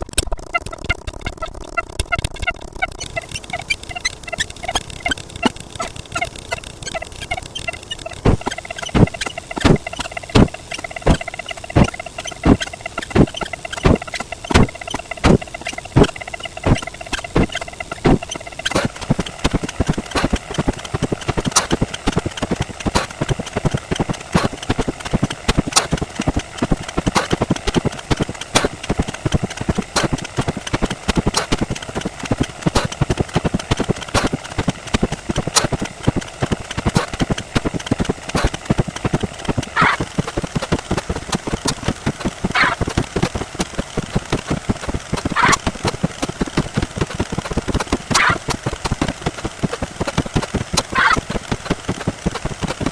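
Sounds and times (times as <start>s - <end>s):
dense clatter of rapid clicks: 0.0s - 52.9s.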